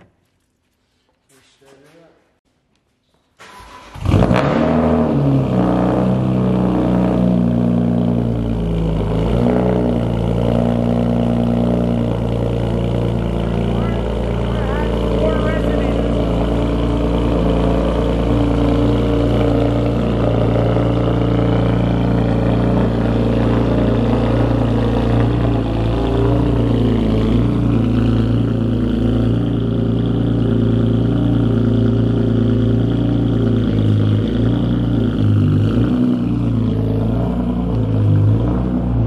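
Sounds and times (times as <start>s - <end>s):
loud engine drone: 4.0s - 39.0s.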